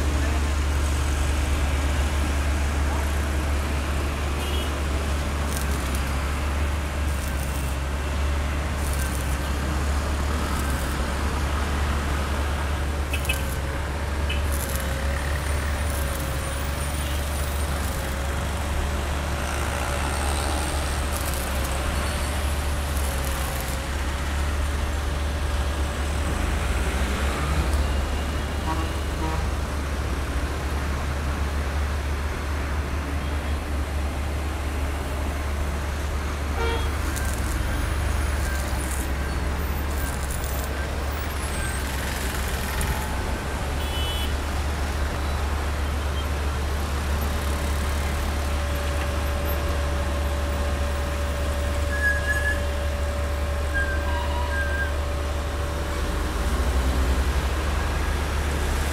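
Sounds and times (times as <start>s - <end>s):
rumble of passing vehicles: 0.0s - 58.9s.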